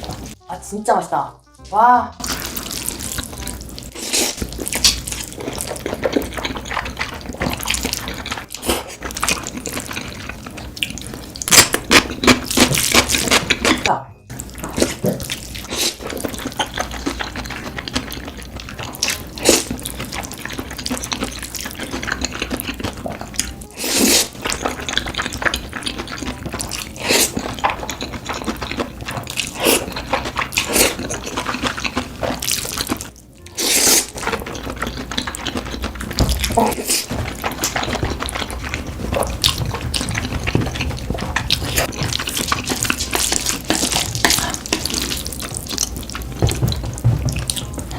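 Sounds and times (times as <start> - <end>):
wet chewing: 2.2 - 47.9.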